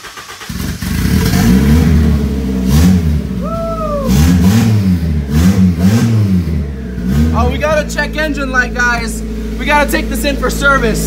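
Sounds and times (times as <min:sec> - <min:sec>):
car engine revving in blips: 0:00.0 - 0:11.0.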